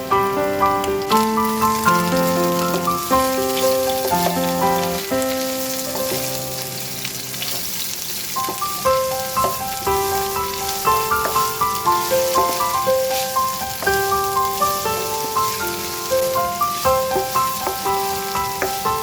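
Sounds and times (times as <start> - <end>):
food sizzling in a pan: 0.0 - 19.0
gentle melodic background music: 0.0 - 19.0.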